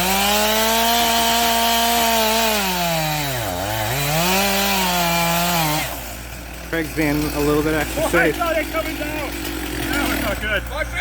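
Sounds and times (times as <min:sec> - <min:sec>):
chainsaw running at high revs: 0:00.0 - 0:11.0.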